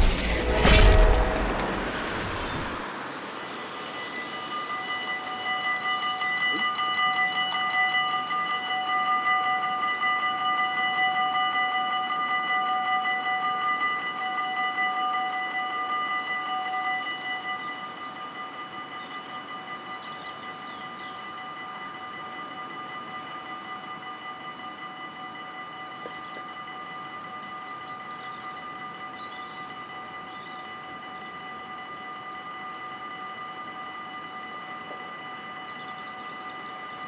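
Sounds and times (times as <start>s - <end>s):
level crossing warning bells: 0.0s - 37.0s.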